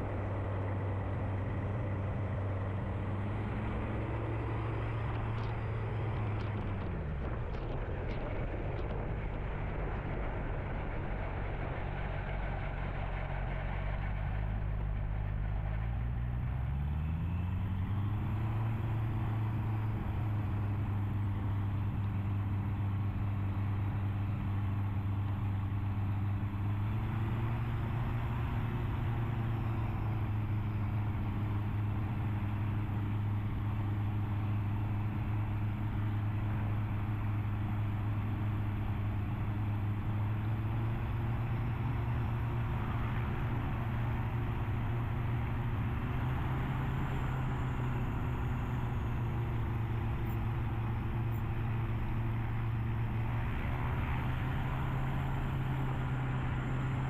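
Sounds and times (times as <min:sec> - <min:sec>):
light aircraft engine and propeller: 0:00.0 - 0:57.0.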